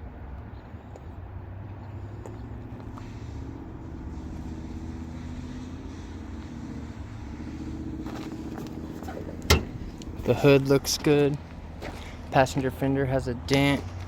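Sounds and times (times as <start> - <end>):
vehicle engine idling: 0.7 - 14.0.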